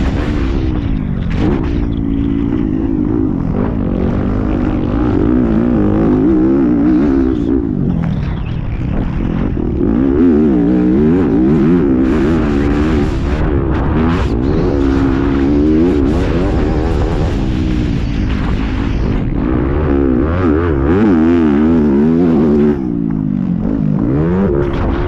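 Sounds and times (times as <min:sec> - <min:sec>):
motocross engine revving: 0:00.0 - 0:25.0.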